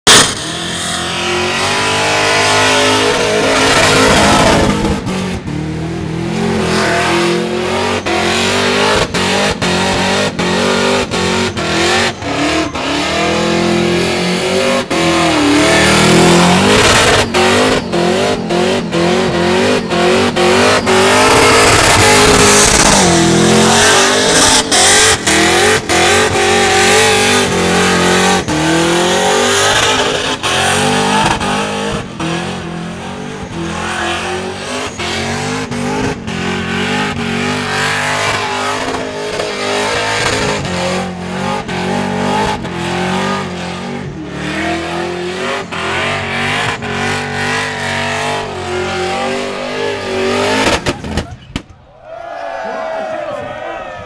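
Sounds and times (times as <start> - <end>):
car engine revving hard: 0.0 - 51.2.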